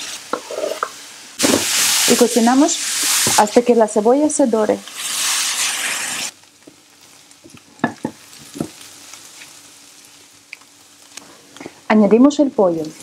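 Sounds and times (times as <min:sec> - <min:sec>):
mushrooms and onion sizzling in pan: 0:00.0 - 0:13.0.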